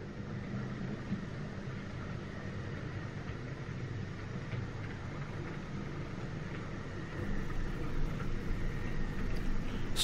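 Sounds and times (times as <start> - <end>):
model train running on track: 0.0 - 10.0.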